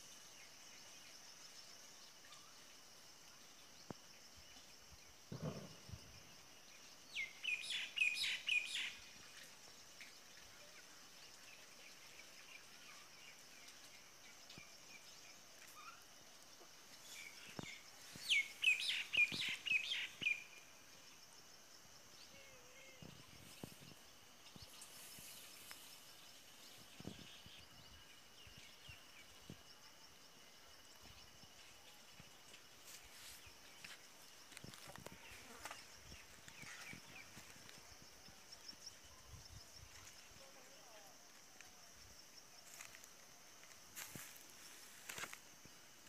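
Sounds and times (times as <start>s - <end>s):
faint steady high hiss: 0.0s - 46.0s
songbird chirping: 0.0s - 46.0s.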